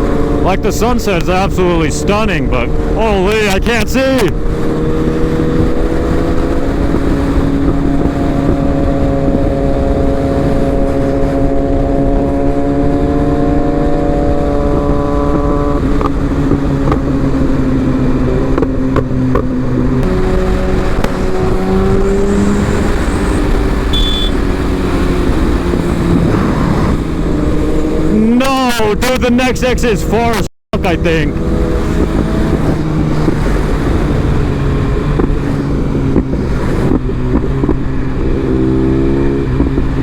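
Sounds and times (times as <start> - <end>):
motorcycle engine droning: 0.0 - 40.0
wind rumble on microphone: 2.4 - 28.2, 30.8 - 40.0.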